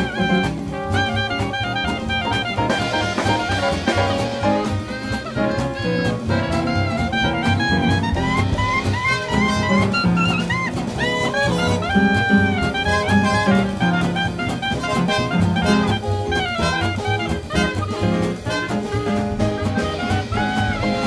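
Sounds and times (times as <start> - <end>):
clarinet melody: 0.0 - 21.0
drums with cymbals: 0.0 - 21.0
piano: 0.0 - 21.0
plucked double bass: 0.0 - 21.0.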